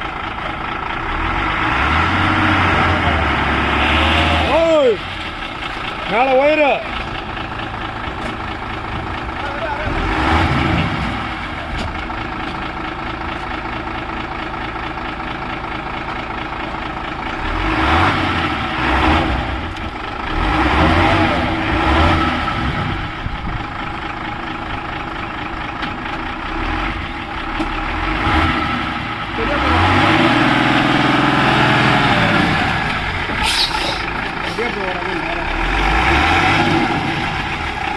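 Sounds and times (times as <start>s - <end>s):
heavy diesel engine idling and revving: 0.0s - 37.9s.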